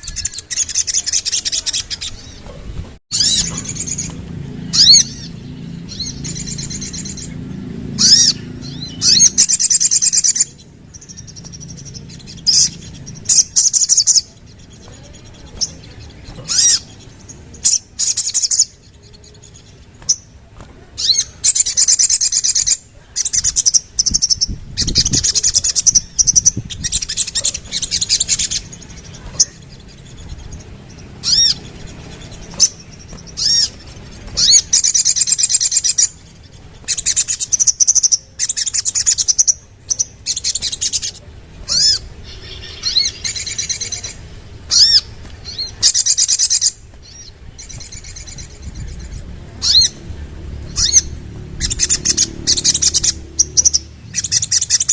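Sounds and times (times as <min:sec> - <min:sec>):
bird singing rapid trills: 0:00.0 - 0:54.9
sharp rising bird notes: 0:03.1 - 0:54.9.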